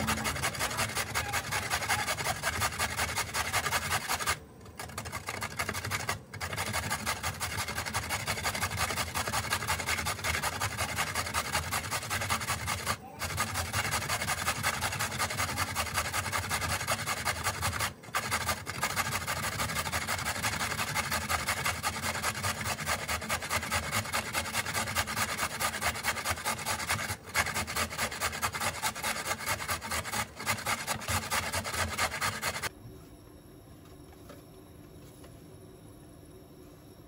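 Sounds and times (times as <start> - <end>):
rhythmic scraping strokes: 0.0 - 32.7.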